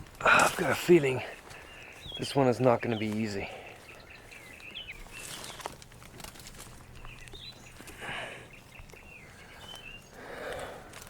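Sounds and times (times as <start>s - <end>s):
birds chirping faintly: 0.0s - 11.0s
brush rustling: 0.0s - 11.0s
footsteps: 0.0s - 11.0s.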